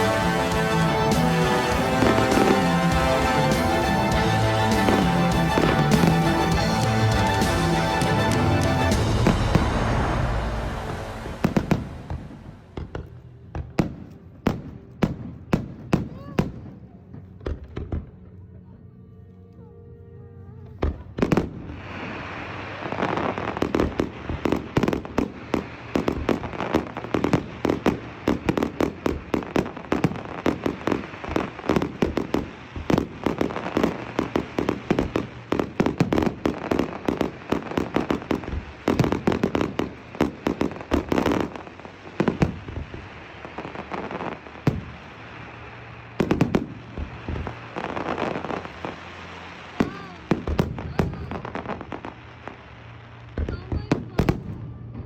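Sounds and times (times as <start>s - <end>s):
fireworks bursts and crackling: 0.0s - 18.1s, 20.8s - 55.0s.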